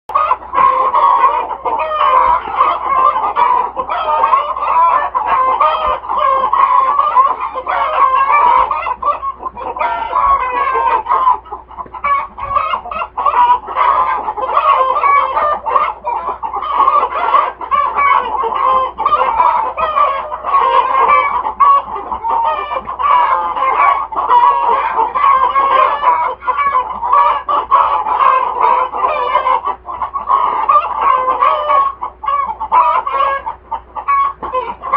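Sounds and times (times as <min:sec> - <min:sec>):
hens clucking and cackling: 0:00.1 - 0:34.9.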